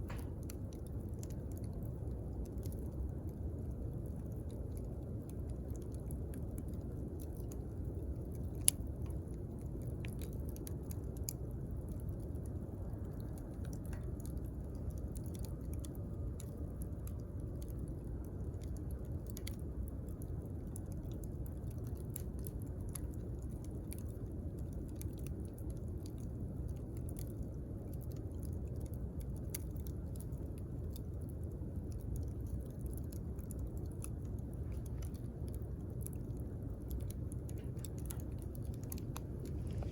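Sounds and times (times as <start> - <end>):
campfire crackling: 0.0 - 39.9
fire popping and snapping: 0.0 - 39.9.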